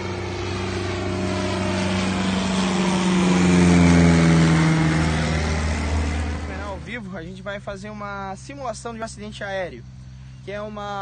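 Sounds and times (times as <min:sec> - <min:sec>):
propeller airplane flying overhead: 0:00.0 - 0:11.0.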